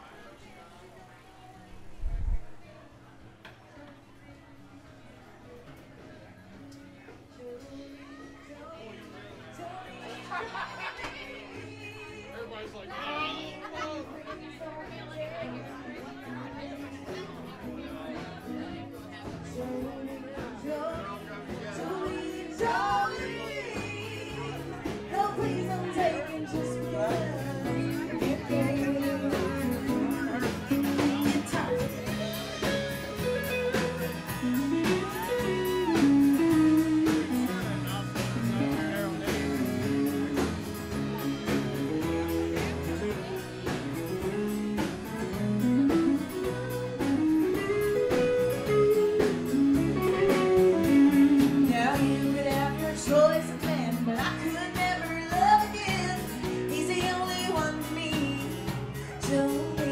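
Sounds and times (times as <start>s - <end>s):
live country band: 0.0s - 59.9s
electric and acoustic guitars: 3.8s - 59.9s.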